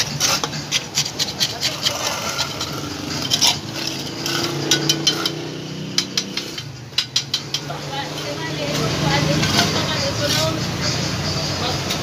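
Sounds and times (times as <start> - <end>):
trowel scraping and clinking on blocks: 0.0 - 10.6.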